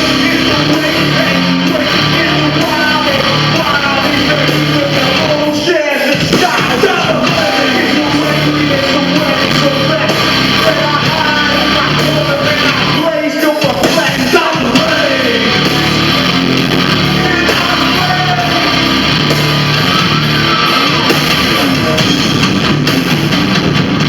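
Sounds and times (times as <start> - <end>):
singer yelling vocals: 0.0 - 22.3
heavy rock band playing: 0.0 - 24.0.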